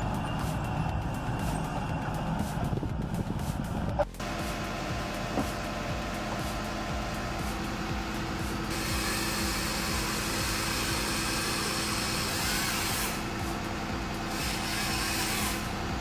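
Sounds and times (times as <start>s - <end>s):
loud hiss: 0.0s - 16.0s
motor humming: 0.0s - 16.0s.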